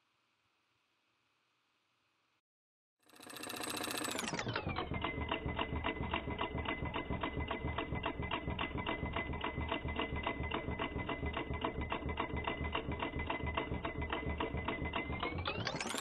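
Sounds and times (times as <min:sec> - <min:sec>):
model engine fast clicking: 0:03.1 - 0:16.0.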